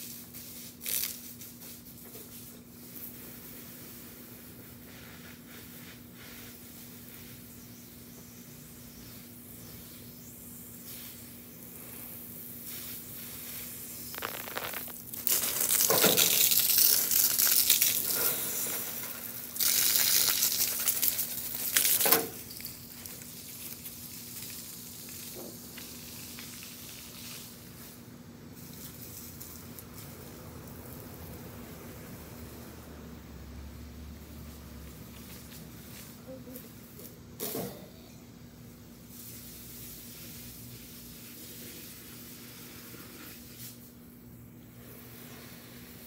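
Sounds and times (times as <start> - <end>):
hose spray hissing onto grass: 0.0 - 31.4, 39.0 - 44.0, 44.8 - 46.0.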